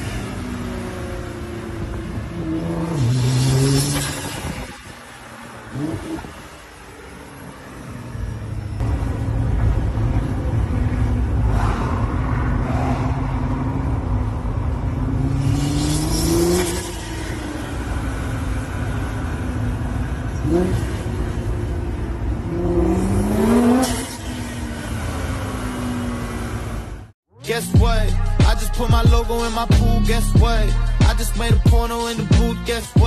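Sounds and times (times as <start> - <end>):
car engine accelerating: 0.0 - 31.6.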